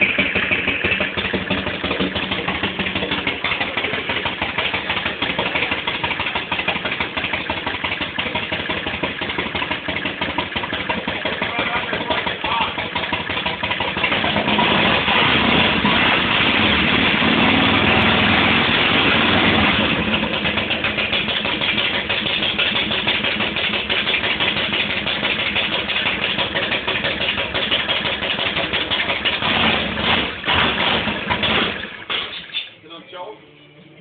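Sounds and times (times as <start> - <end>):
motorcycle engine running: 0.0 - 32.7.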